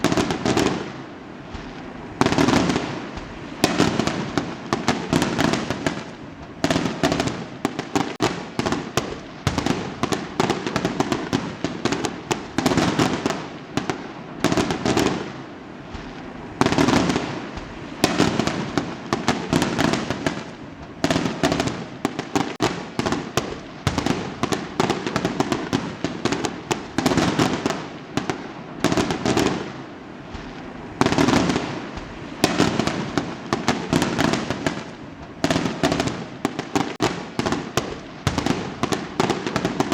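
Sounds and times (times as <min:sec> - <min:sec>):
fireworks crackling: 0:00.0 - 0:39.9
fireworks exploding: 0:00.0 - 0:39.9.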